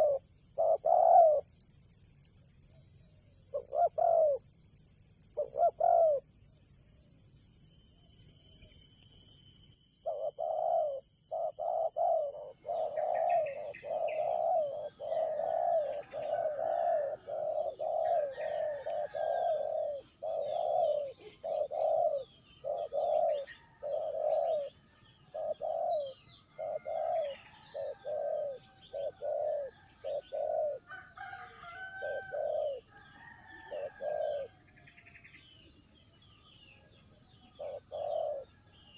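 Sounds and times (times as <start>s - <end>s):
high insect whine: 7.3s - 38.9s.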